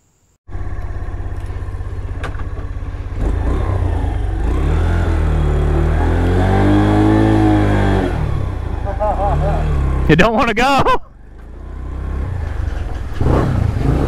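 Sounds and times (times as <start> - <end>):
motorcycle engine idling and revving: 0.5 - 14.0.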